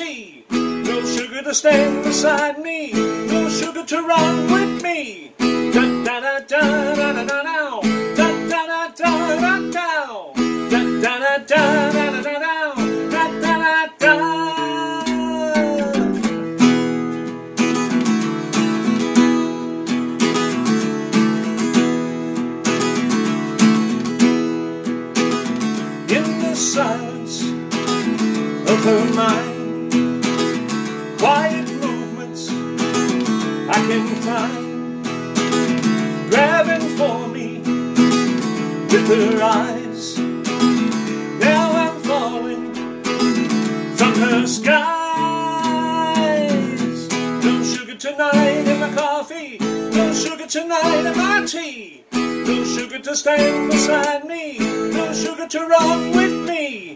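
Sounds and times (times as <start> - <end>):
man singing: 0.0 - 16.8, 25.6 - 56.9
acoustic guitar strumming: 0.0 - 56.9.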